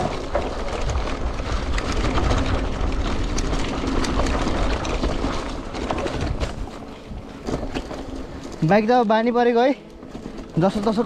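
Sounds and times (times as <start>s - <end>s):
mountain bike rumbling down trail: 0.0s - 11.0s
tyres clicking on leaves and twigs: 0.0s - 11.0s.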